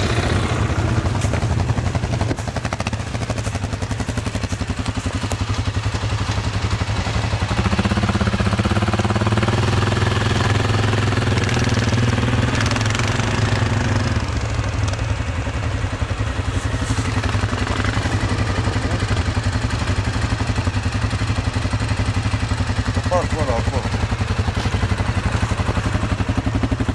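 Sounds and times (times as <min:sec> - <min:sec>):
quad bike engine running: 0:00.0 - 0:26.9.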